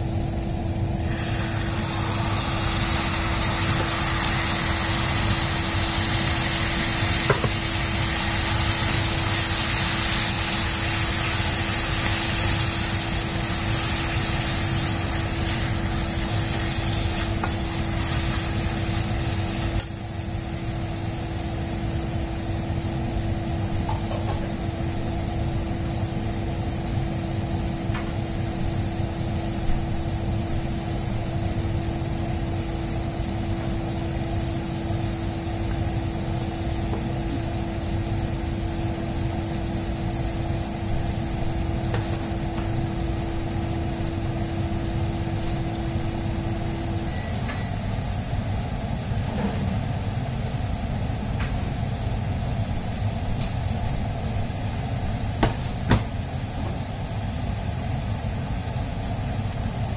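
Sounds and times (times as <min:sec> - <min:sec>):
steady hum: 0:00.0 - 0:59.9
meat sizzling in a frying pan: 0:00.1 - 0:49.2.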